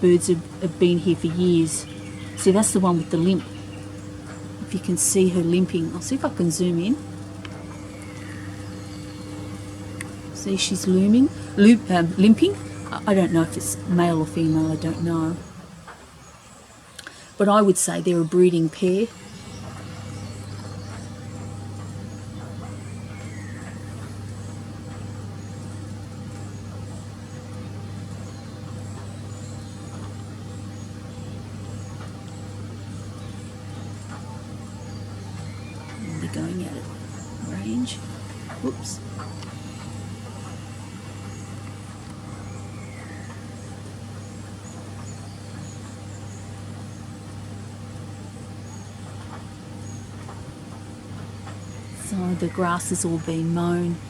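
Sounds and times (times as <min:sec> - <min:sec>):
low motor hum: 0:00.0 - 0:54.0.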